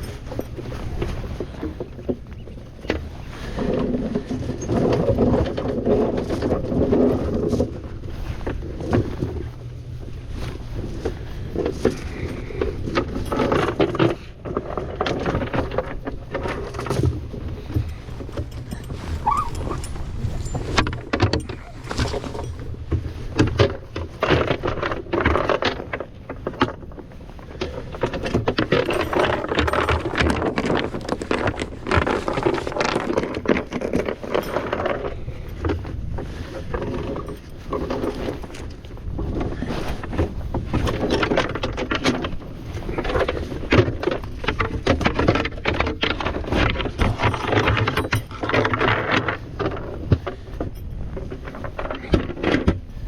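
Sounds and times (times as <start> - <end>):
anchor chain rattling: 0.0 - 53.0.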